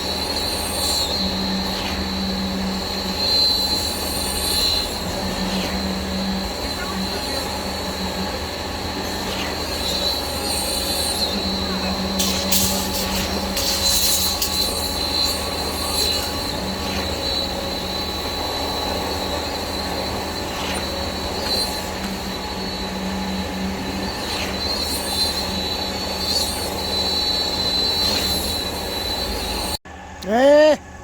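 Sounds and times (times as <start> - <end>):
high squealing whine: 0.0 - 31.0
pump mechanical drone: 0.0 - 31.0.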